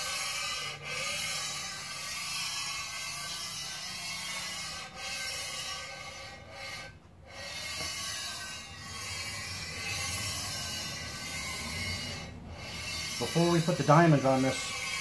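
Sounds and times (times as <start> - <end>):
metal plate rasping on stone: 0.0 - 15.0.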